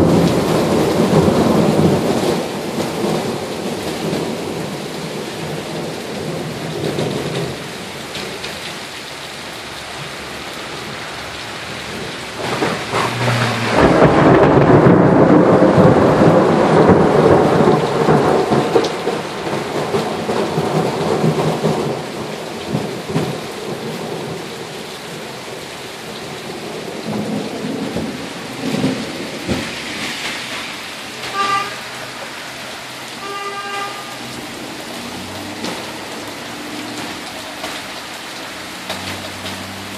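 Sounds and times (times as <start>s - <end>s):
thunder rumbling: 0.0s - 7.7s, 11.6s - 33.3s, 33.9s - 39.9s
steady rain falling: 0.0s - 39.9s.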